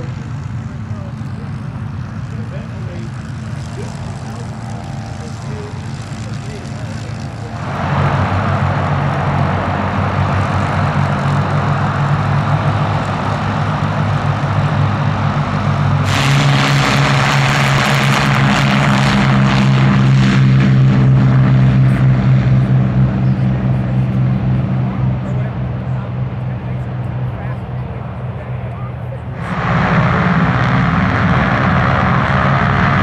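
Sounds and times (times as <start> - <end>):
propeller aircraft engine droning: 0.0 - 33.0.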